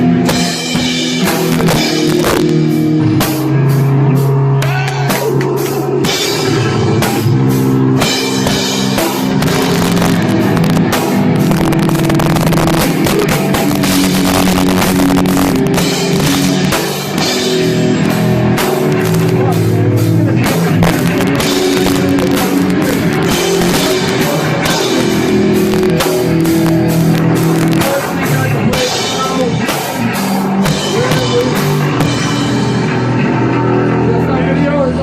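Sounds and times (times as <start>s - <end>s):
punk band playing: 0.0s - 35.0s.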